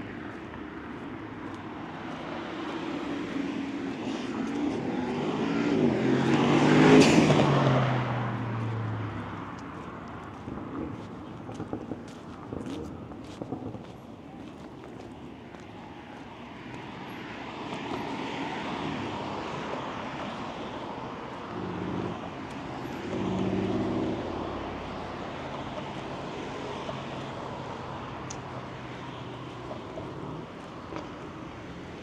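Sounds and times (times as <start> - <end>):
street noise rush: 0.0 - 32.0
motor vehicle passing: 0.8 - 13.8, 17.4 - 32.0.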